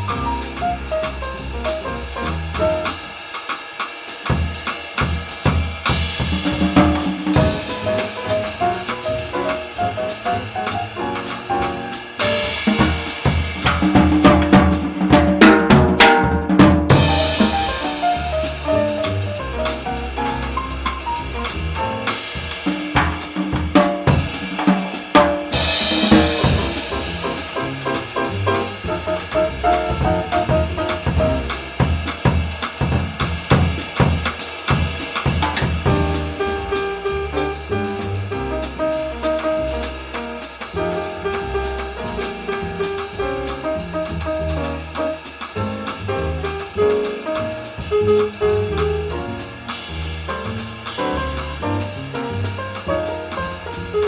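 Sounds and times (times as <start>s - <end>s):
drum kit snare and cymbals: 0.0s - 54.0s
jazz combo playing: 0.0s - 54.0s.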